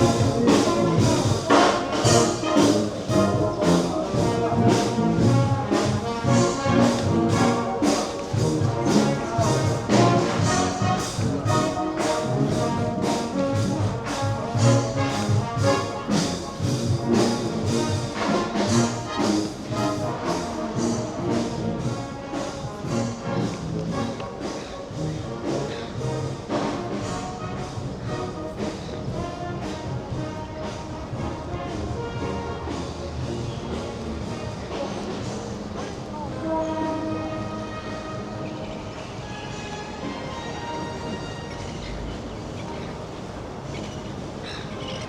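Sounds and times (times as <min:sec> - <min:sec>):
brass band music: 0:00.0 - 0:45.0.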